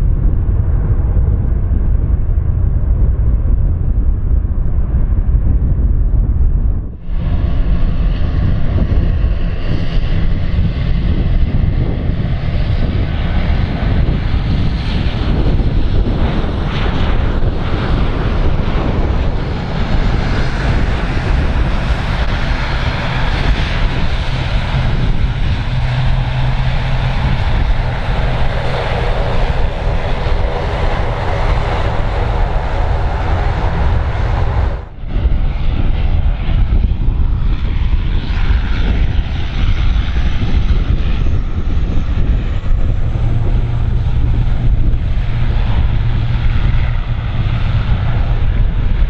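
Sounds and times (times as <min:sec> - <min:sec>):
engine whine: 0:00.0 - 0:49.0
heavy low rumble: 0:00.0 - 0:49.0
jet engines passing: 0:00.0 - 0:49.0
wind on microphone: 0:00.0 - 0:49.0.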